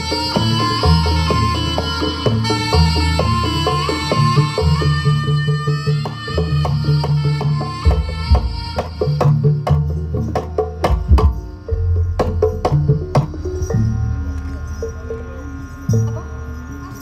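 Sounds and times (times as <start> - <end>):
steady pitched notes: 0.0 - 17.0.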